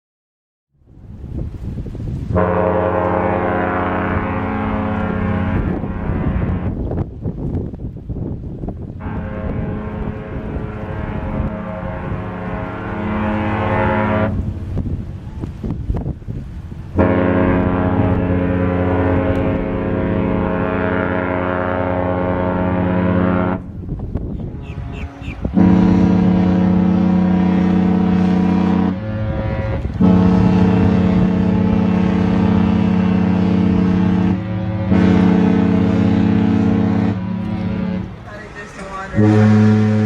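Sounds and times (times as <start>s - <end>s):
ship horn blasts: 2.1s - 7.2s, 8.8s - 40.0s.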